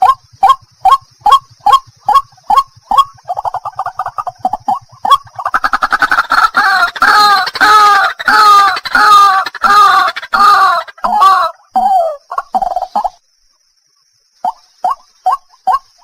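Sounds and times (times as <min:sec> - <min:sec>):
waterhen calling: 0:00.0 - 0:13.2.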